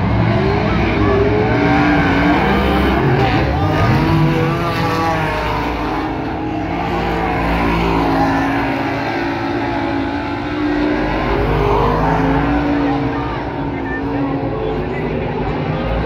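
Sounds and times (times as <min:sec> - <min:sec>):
race car engines racing past: 0:00.0 - 0:16.0.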